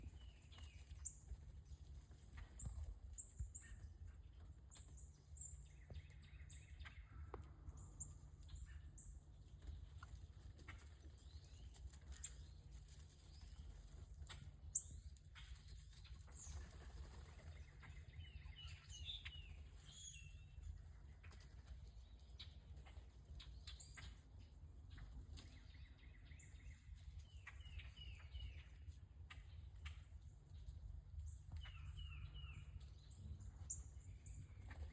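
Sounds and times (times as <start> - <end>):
small songbirds calling: 0.0 - 34.9.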